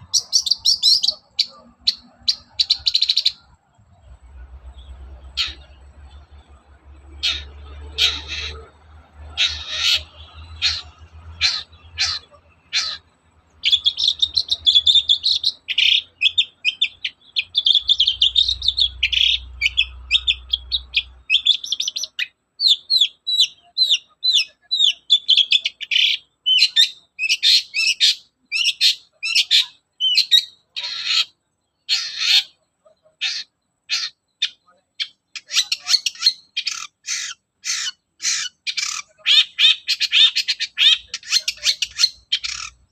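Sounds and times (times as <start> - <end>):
shrike singing: 0.0 - 42.9.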